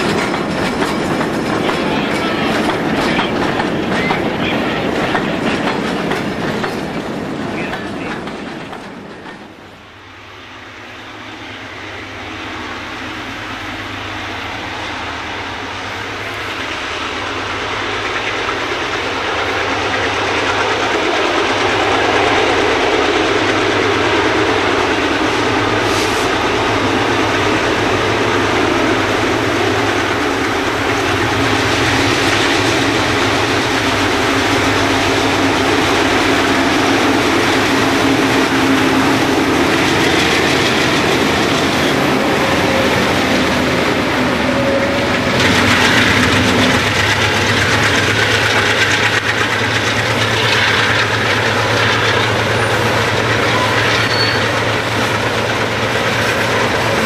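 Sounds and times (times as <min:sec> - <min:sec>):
diesel locomotives hauling train: 0:00.0 - 0:57.0.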